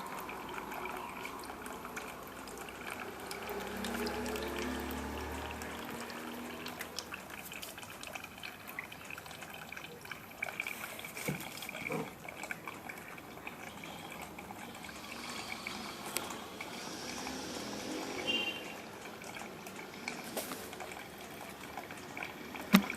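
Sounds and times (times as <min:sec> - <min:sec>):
tabletop fountain water trickling: 0:00.0 - 0:22.9.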